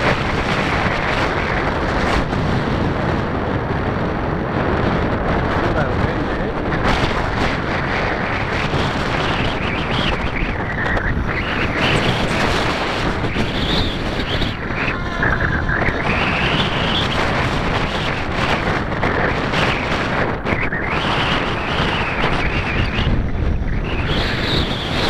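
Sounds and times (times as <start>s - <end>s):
rc helicopter whine: 0.0s - 25.0s
wind buffeting microphone: 0.0s - 25.0s.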